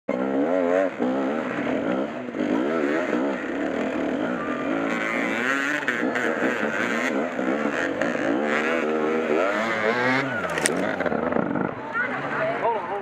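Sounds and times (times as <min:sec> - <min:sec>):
dirt bike engine revving: 0:00.1 - 0:11.7.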